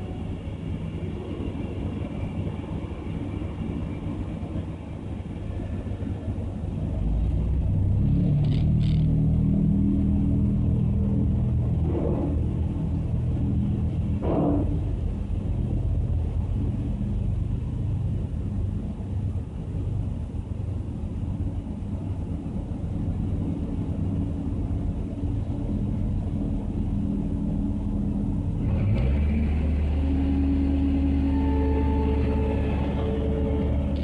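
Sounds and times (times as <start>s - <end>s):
deeper engine note: 0.0s - 34.0s
low engine rumble inside car: 0.0s - 34.0s.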